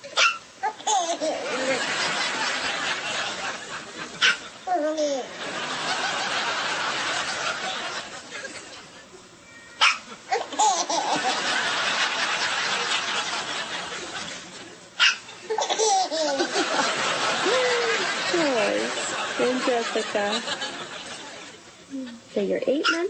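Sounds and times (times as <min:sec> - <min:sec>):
laughter: 0:01.0 - 0:04.6, 0:05.2 - 0:09.3, 0:10.1 - 0:21.7.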